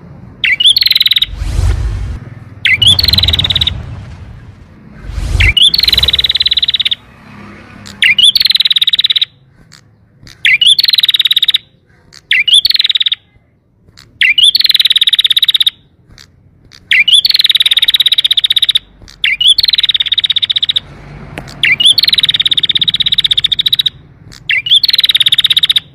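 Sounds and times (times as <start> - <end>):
canary singing trills: 0.3 - 1.4, 2.6 - 3.9, 4.8 - 25.9.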